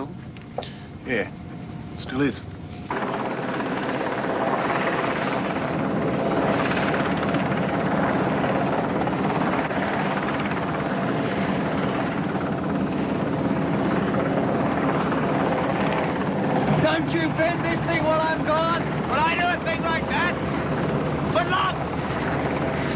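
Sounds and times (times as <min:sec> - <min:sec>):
helicopter overhead: 0:00.0 - 0:22.9.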